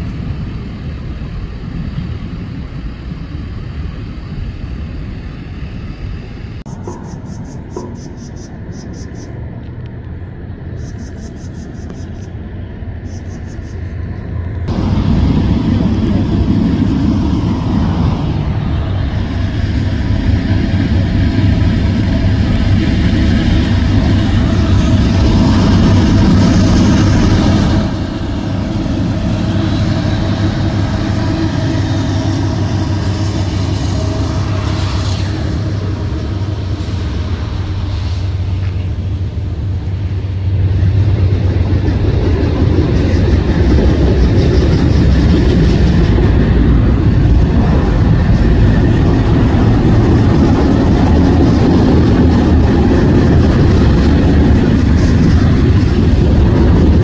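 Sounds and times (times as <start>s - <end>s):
freight train rumbling on track: 0.0s - 57.0s.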